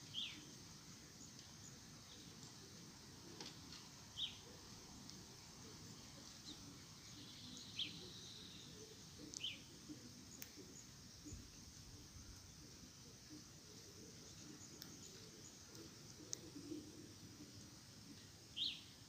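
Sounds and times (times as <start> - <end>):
faint background hiss: 0.0 - 19.0
small birds chirping: 0.0 - 19.0.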